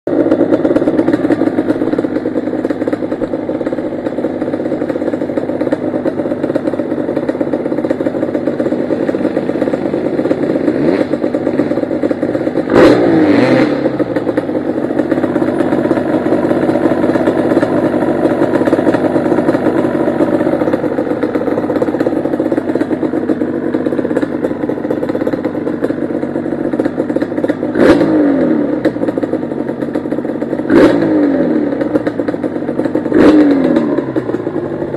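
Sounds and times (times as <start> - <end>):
two-stroke engine running: 0.1 - 34.9.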